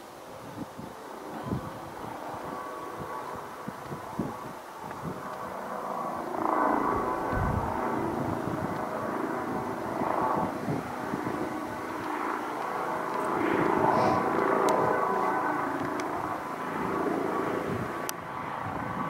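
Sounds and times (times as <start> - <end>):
helicopter whine and rotor drone: 0.0 - 19.0.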